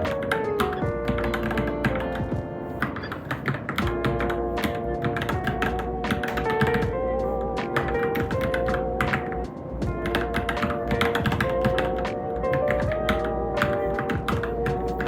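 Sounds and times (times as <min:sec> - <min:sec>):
mechanical keyboard typing: 0:00.0 - 0:02.2, 0:02.8 - 0:07.0, 0:07.6 - 0:15.0
background music: 0:00.0 - 0:15.0.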